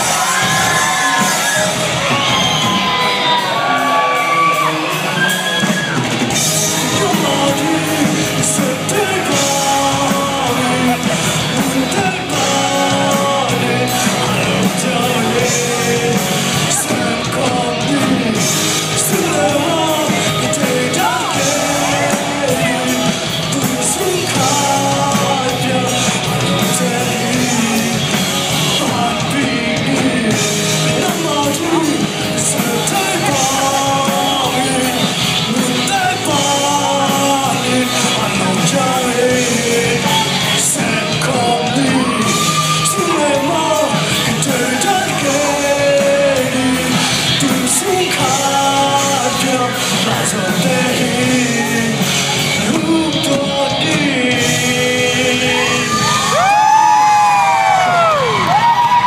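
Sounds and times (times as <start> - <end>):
music with singing: 0.0 - 59.0
people shouting and whooping: 0.0 - 59.0.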